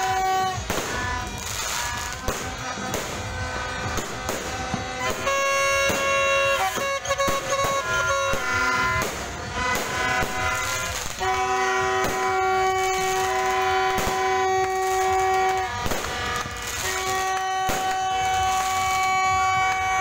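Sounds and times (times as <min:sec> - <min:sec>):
fireworks bangs: 0:00.0 - 0:20.0
horns honking: 0:00.0 - 0:20.0.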